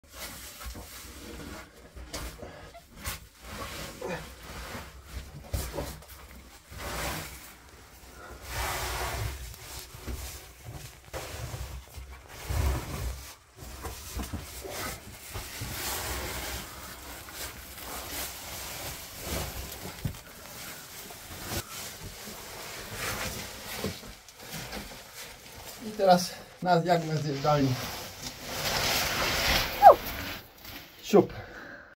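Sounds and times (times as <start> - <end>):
body scraping over rock: 0.1 - 30.7.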